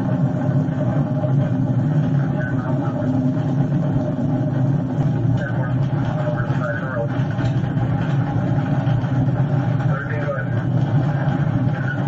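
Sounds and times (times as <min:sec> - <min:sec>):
car engine and tyre drone: 0:00.0 - 0:12.0.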